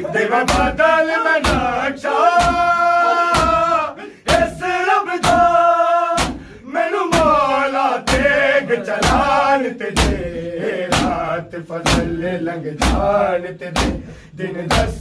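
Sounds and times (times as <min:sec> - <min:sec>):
crowd chest-beating in unison: 0:00.0 - 0:15.0
men chanting in long notes: 0:00.0 - 0:15.0.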